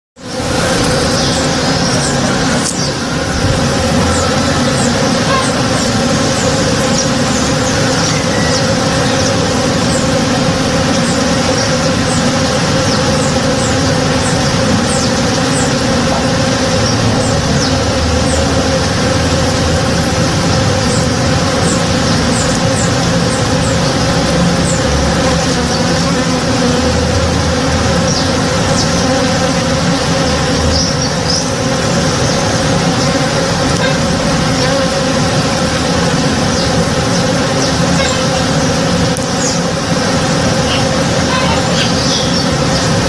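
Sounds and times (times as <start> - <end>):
bees buzzing: 0.2 - 43.0.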